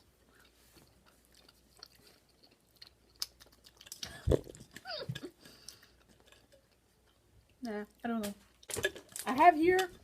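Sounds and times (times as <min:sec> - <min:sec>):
person chewing: 0:00.0 - 0:09.2.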